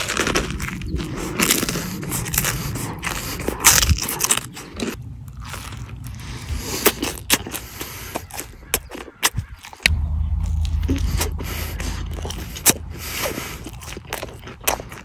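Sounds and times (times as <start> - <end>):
wet mouth sounds: 0.0 - 5.0, 5.7 - 15.0
person biting and chewing: 0.0 - 15.0.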